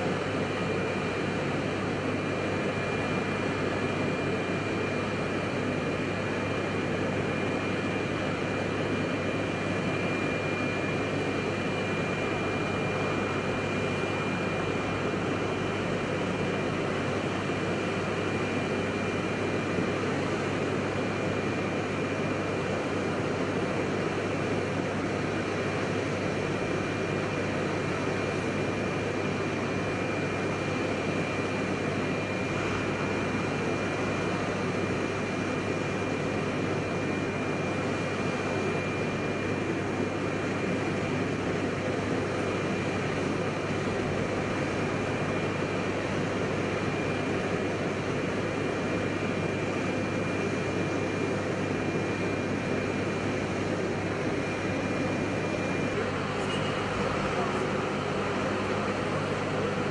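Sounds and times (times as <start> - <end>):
aircraft turbine whine and hum: 0.0 - 59.9.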